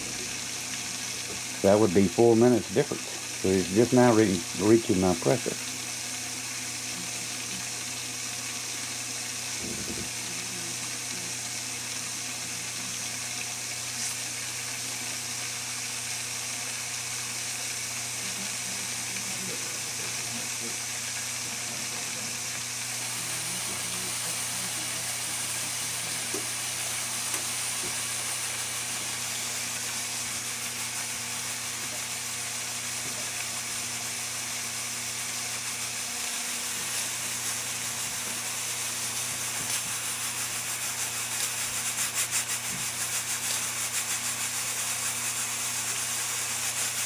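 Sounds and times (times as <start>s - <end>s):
pressure cooker hissing: 0.0s - 47.0s.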